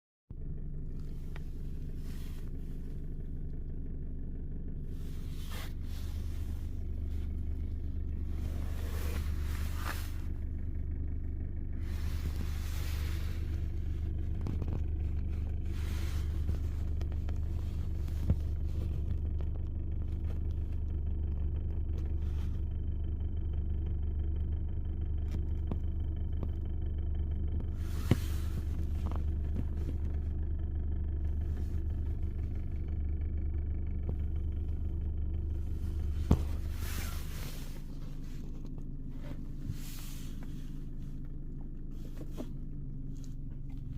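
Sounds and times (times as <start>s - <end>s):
car engine idling with rattle: 0.3s - 43.9s.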